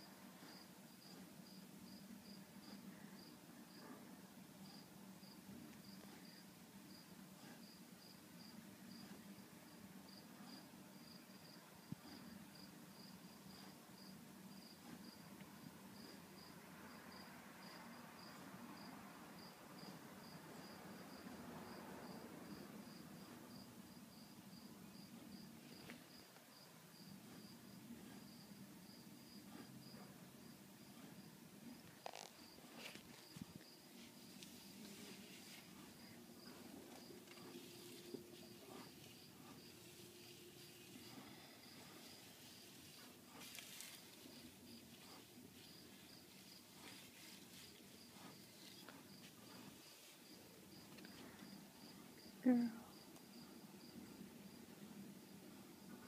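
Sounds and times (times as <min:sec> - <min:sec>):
crickets chirping: 0:04.6 - 0:56.0.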